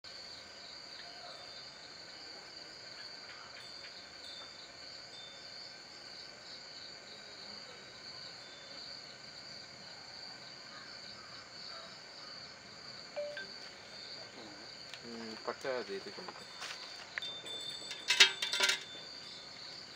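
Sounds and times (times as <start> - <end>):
crickets chirping: 0.1 - 19.9.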